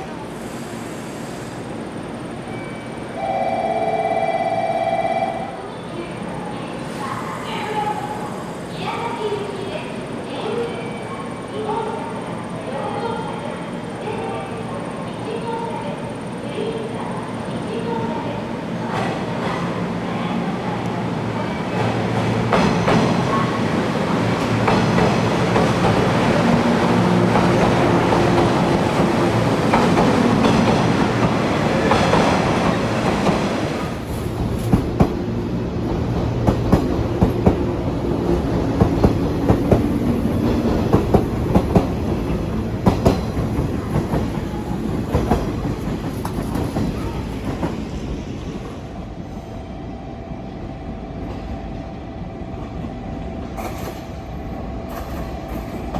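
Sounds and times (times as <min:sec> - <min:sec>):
train rumble: 0:03.2 - 0:55.9.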